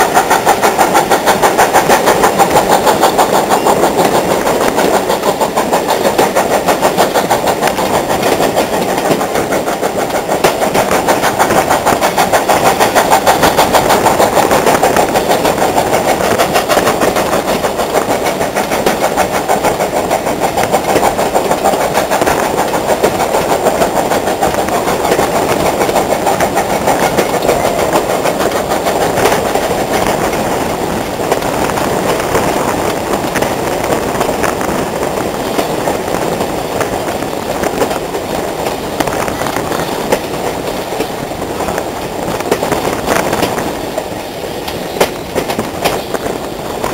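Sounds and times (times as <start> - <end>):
steam locomotive exhaust beating: 0.0 - 46.9.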